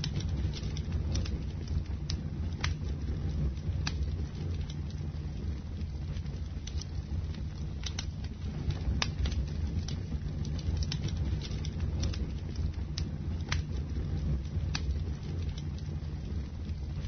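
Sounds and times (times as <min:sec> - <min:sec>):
burning wood crackling and popping: 0:00.0 - 0:17.0
low rumble of flame: 0:00.0 - 0:17.0.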